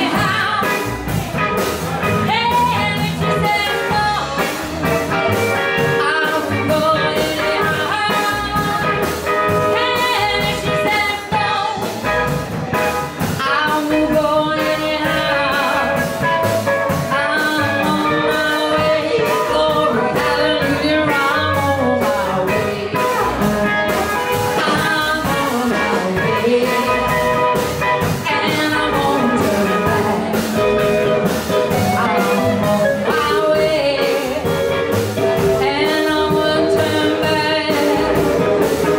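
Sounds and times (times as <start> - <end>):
drums: 0.0 - 38.9
electric guitar: 0.0 - 38.9
person singing: 0.0 - 38.9.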